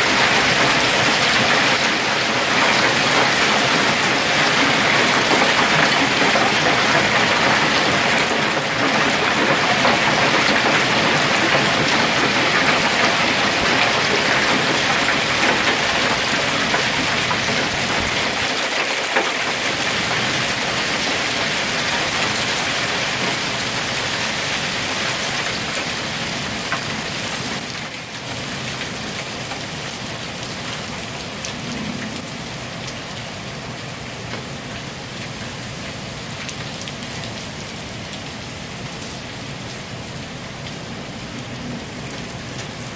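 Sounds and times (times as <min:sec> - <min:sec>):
rain and hail pelting cars: 0:00.0 - 0:42.9.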